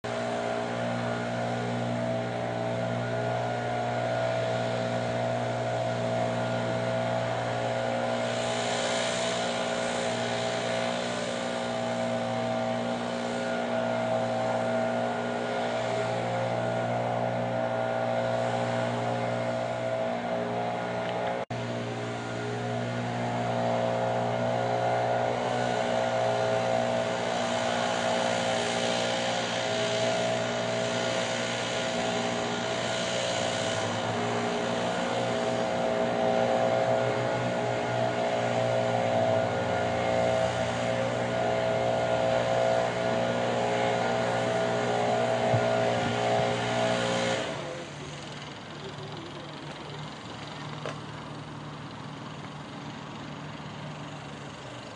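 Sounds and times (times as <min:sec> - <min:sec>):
diesel locomotive engine running: 0:00.0 - 0:54.9.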